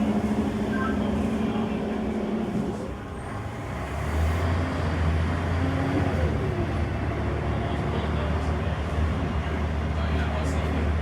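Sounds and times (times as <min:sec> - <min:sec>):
diesel bus engine droning: 0:00.0 - 0:11.0.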